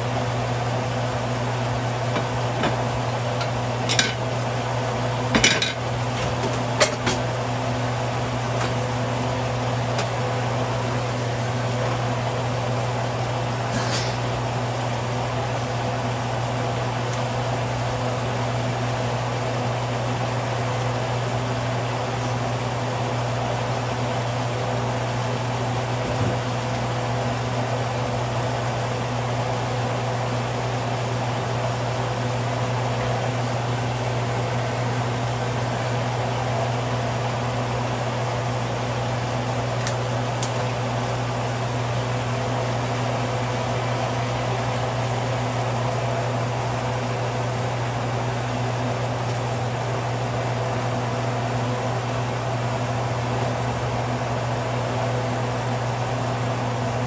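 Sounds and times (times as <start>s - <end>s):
fan or motor humming: 0.0s - 57.0s.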